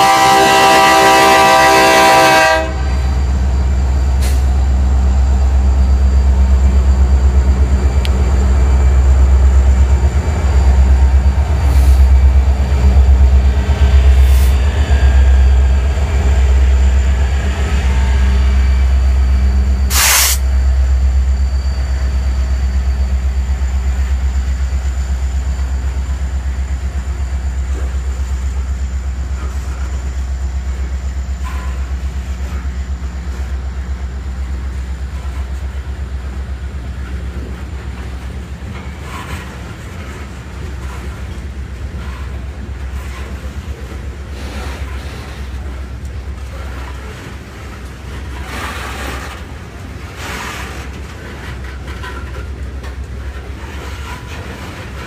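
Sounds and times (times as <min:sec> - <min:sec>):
diesel locomotive engine: 0:00.0 - 0:55.0
train cars rumbling by: 0:00.0 - 0:55.0.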